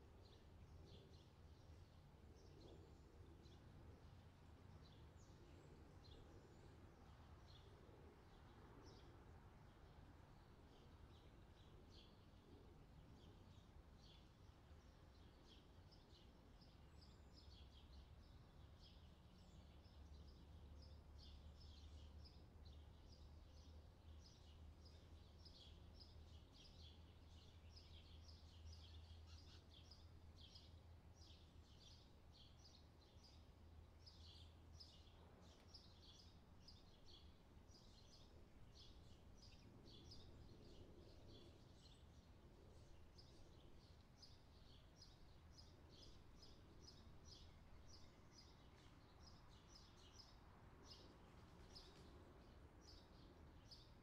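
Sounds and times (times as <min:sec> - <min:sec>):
low steady background rumble: 0:00.0 - 0:54.0
small birds chirping: 0:00.0 - 0:54.0.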